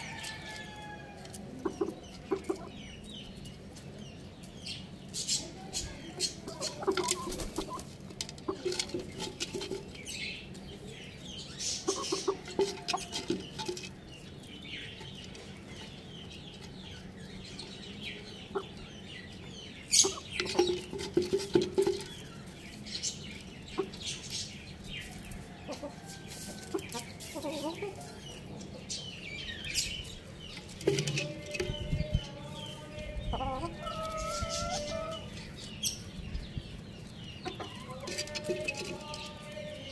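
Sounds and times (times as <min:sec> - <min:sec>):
hens clucking: 0:00.0 - 0:04.0, 0:05.1 - 0:10.9, 0:11.6 - 0:29.0, 0:29.7 - 0:39.9
beaks tapping on pot and concrete: 0:00.0 - 0:28.4, 0:29.4 - 0:39.9.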